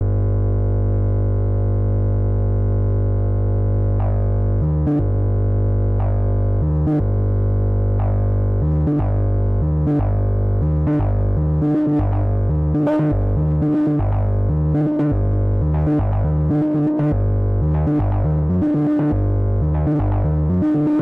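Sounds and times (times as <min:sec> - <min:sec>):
synthesizer bass line: 0:03.2 - 0:21.0.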